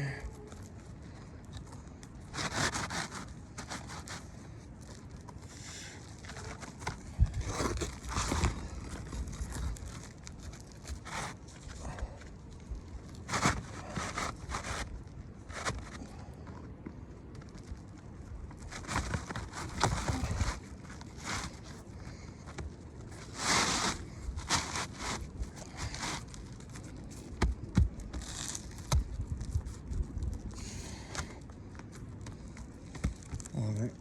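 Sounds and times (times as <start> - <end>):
shingle scraping against shingles: 0.3 - 12.2, 13.1 - 16.0, 18.6 - 33.5.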